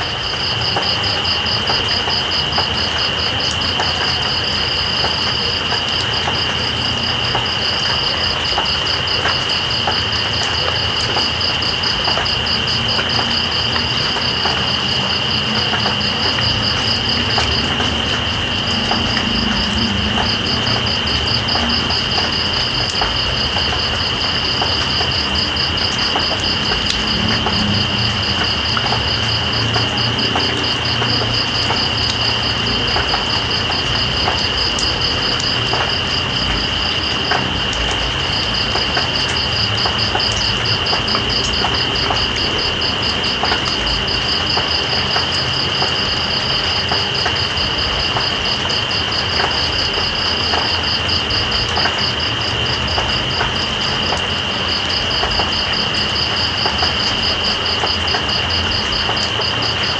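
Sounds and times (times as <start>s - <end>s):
rain: 0.0s - 59.9s.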